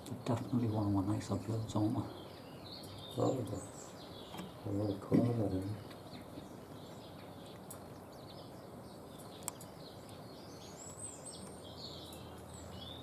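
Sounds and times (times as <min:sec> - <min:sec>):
songbirds chirping and singing: 0:00.0 - 0:13.0
steady outdoor hiss: 0:00.0 - 0:13.0.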